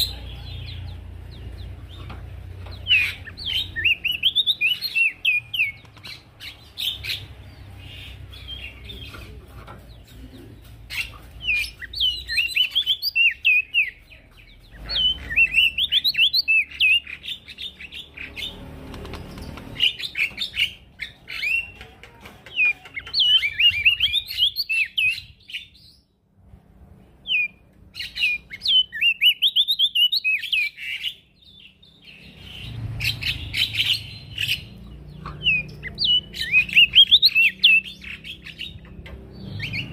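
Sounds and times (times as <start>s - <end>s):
bird twittering song: 0.0s - 26.2s, 27.2s - 39.9s.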